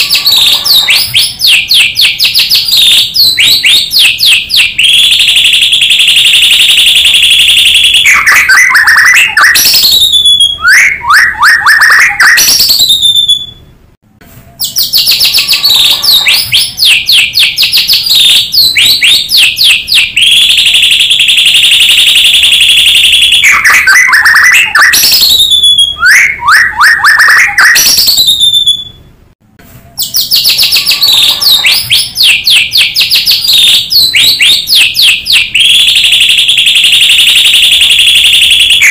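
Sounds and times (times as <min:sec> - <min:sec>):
bird song trills and whistles: 0:00.0 - 0:13.7, 0:14.4 - 0:29.1, 0:29.9 - 0:38.9.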